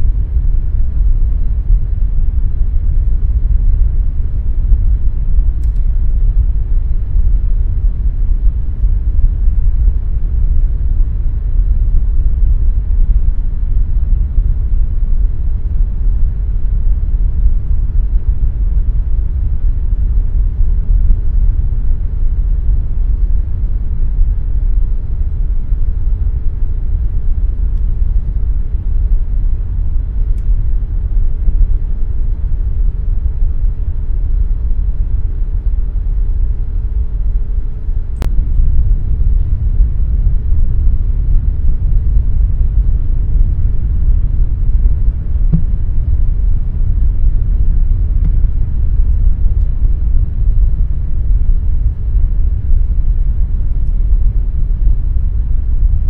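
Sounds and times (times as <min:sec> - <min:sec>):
air conditioner humming: 0:00.0 - 0:56.0
faint steady tone: 0:00.0 - 0:56.0.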